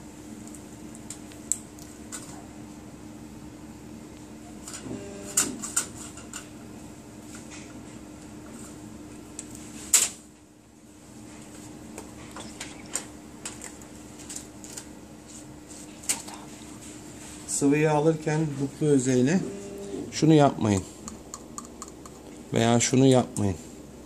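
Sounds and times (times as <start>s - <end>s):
cabinet fan hum: 0.0s - 24.0s.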